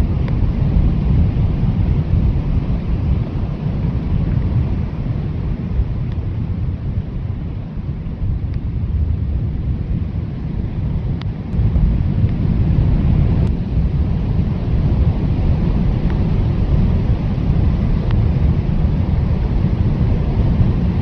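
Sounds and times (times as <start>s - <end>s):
storm wind rushing: 0.0s - 21.0s.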